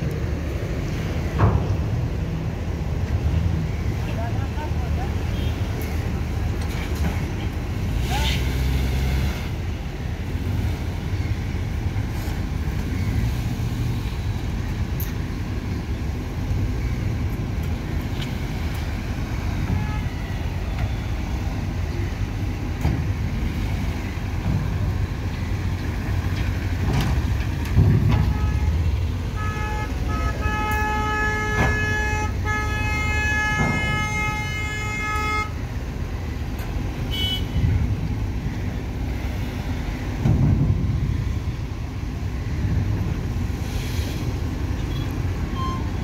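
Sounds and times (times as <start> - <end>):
vehicle engines running: 0.0 - 46.0.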